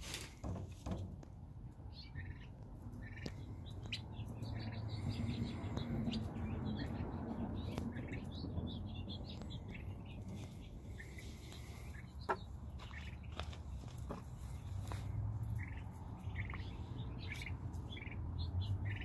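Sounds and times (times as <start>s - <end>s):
low background rumble: 0.6s - 19.0s
turkey poults peeping: 1.6s - 19.0s.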